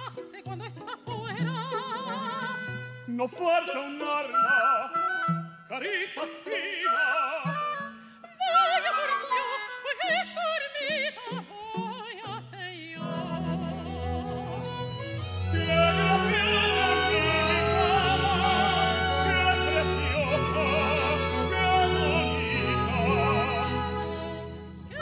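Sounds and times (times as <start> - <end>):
string orchestra playing: 0.0 - 9.6, 13.0 - 25.0
operatic tenor singing: 0.0 - 25.0.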